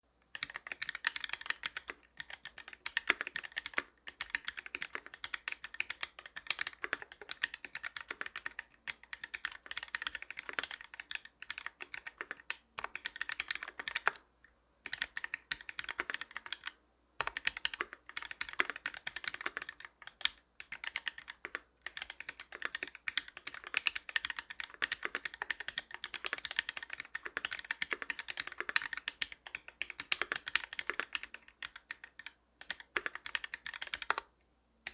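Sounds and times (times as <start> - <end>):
typing on mechanical keyboard: 0.3 - 14.2, 14.9 - 34.3.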